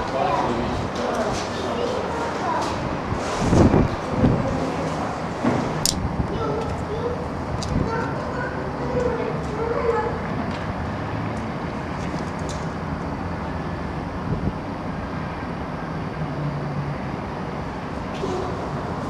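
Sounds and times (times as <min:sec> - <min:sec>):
low rushing noise: 0:00.0 - 0:19.0.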